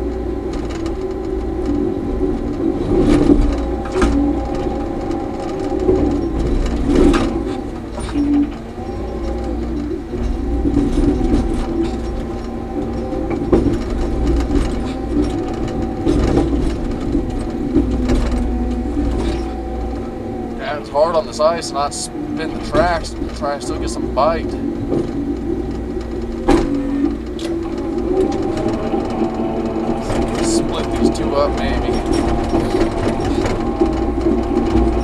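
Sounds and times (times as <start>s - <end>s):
dozer diesel engine whining: 0.0s - 35.0s
steel tracks clattering: 0.0s - 35.0s.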